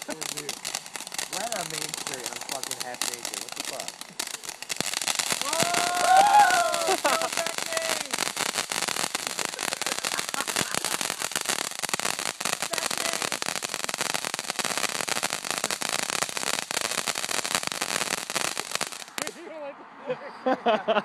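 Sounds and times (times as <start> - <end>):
firework hissing and crackling: 0.0 - 19.4.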